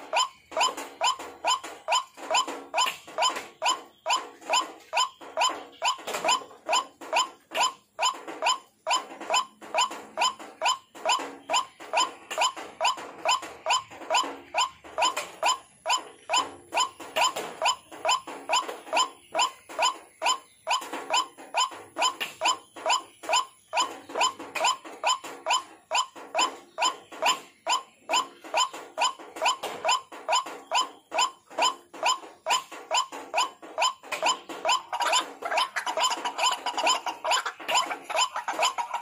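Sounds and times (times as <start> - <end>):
waterhen call notes: 0.0 - 39.0.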